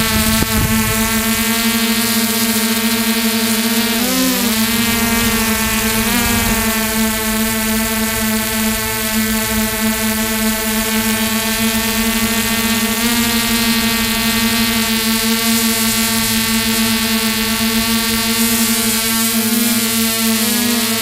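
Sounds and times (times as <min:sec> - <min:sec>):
model helicopter motor hum: 0:00.0 - 0:21.0.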